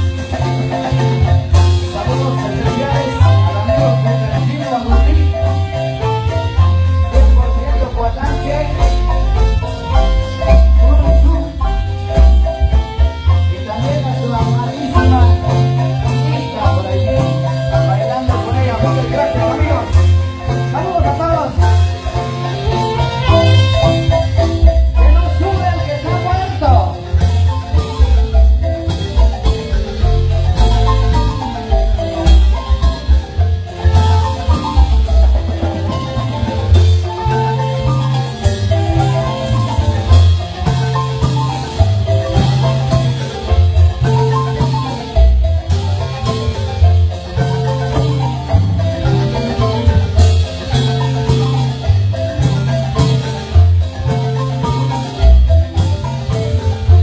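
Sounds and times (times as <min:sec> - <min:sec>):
marimba band playing dance music: 0:00.0 - 0:57.0.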